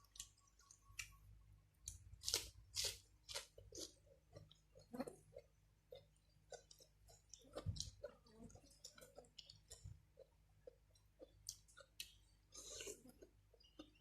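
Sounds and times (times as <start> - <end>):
chewing noodles: 1.9 - 14.0.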